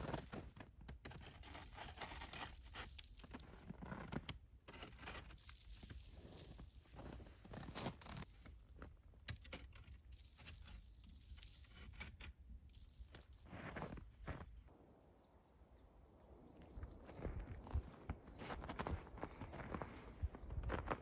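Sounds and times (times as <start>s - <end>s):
footsteps crunching in frozen snow: 0.0s - 4.0s, 4.7s - 8.9s, 9.8s - 14.8s, 16.4s - 21.0s.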